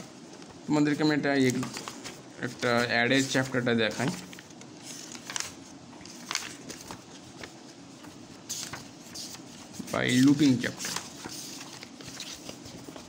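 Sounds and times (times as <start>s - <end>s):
book pages flipping: 1.3s - 13.0s.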